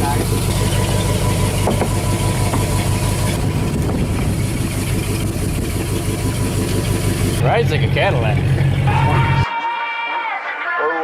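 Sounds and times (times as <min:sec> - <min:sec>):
speedboat engine humming: 0:00.0 - 0:09.5.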